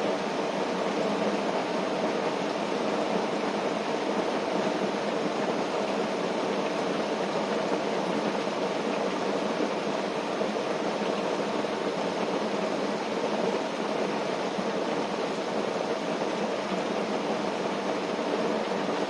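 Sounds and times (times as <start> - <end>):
rain falling on a tent: 0.0 - 19.0.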